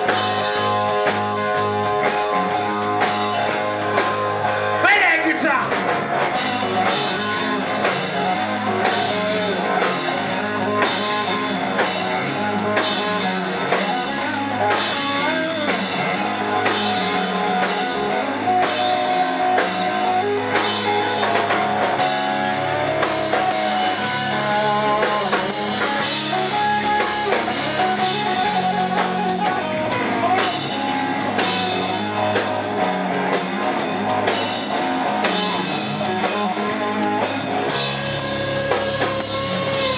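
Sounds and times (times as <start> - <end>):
bass guitar: 0.0 - 39.9
drum kit beat: 0.0 - 39.9
electric guitar solo: 0.0 - 39.9.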